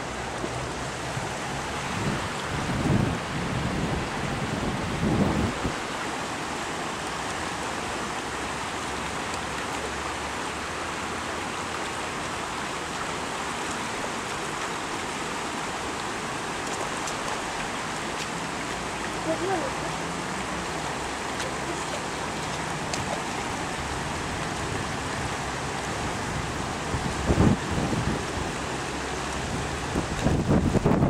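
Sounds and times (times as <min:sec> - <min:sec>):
floodwater rushing: 0:00.0 - 0:31.0.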